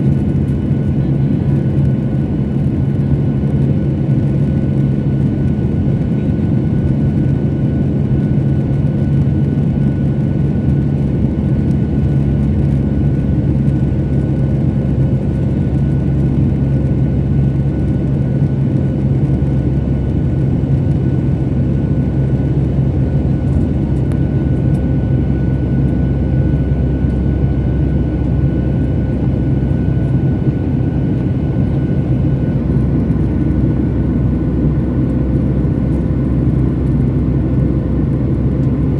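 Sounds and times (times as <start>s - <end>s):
constant humming tones: 0.0s - 38.9s
jet engines droning: 0.0s - 38.9s.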